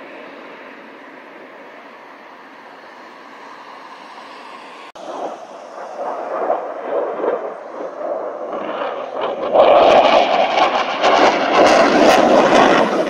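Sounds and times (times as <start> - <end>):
fighter jet engine crackling: 0.0 - 13.0.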